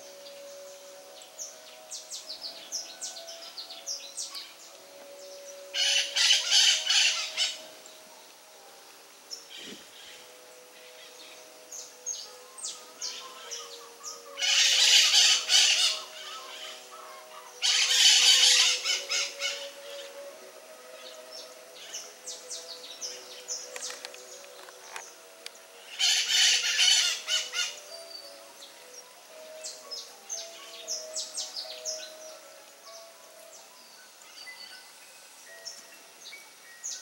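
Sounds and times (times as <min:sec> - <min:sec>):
birds chattering: 0:00.0 - 0:08.2, 0:09.3 - 0:34.8
birds chirping: 0:00.0 - 0:37.0.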